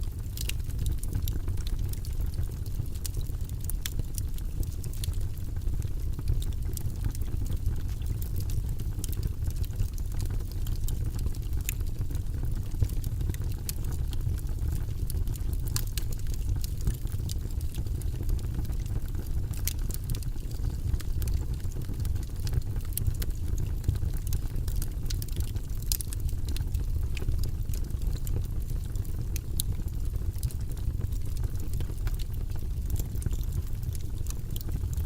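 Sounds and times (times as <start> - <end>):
fire crackling and popping: 0.0 - 35.0
fire rumbling in fireplace: 0.0 - 35.0.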